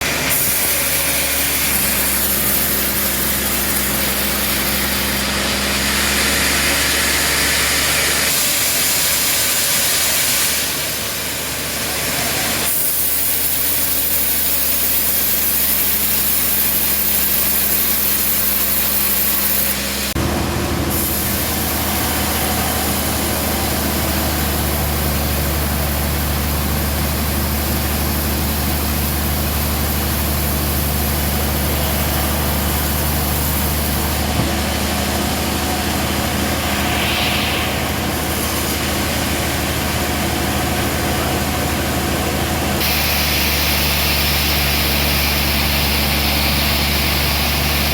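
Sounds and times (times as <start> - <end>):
saw blade hissing: 0.0 - 20.2, 20.9 - 40.3, 42.8 - 47.9
sawmill engine humming: 0.0 - 47.9.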